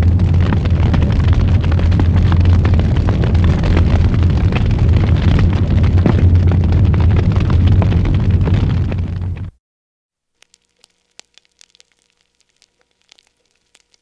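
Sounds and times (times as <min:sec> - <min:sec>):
wood fire crackling: 0:00.0 - 0:09.5, 0:10.4 - 0:14.0.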